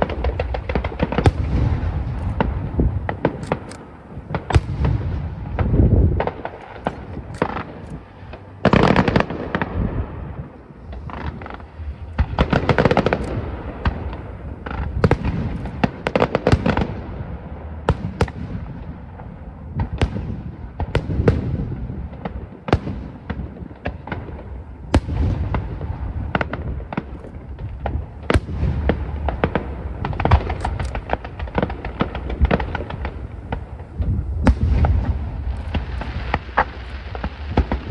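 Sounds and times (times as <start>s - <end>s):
fireworks bangs and crackles: 0.0s - 37.9s
heavy fireworks booms: 0.0s - 37.9s.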